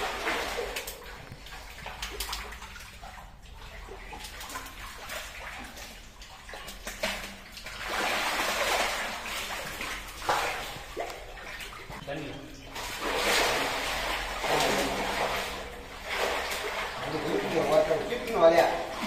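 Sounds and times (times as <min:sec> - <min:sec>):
sharp splash: 0:00.0 - 0:12.0, 0:12.7 - 0:19.0
muddy water sloshing: 0:00.0 - 0:19.0.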